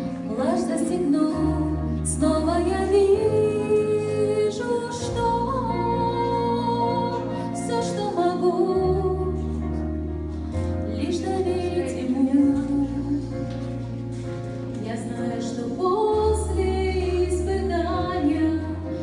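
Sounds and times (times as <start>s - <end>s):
woman singing slow song: 0.0s - 9.9s, 10.8s - 13.7s, 14.8s - 19.0s
instrumental accompaniment with bass: 0.0s - 19.0s.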